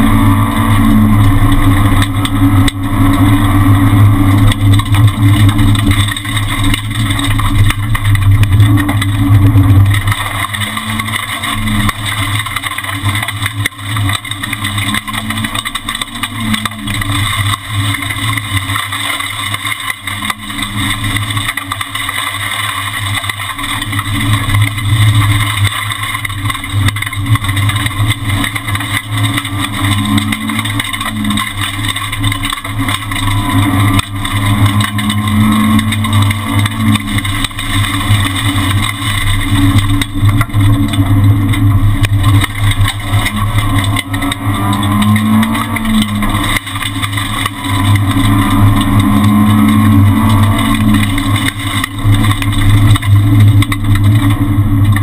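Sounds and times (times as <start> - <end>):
rally car engine revving: 0.0 - 55.0
road and wind noise: 0.0 - 55.0.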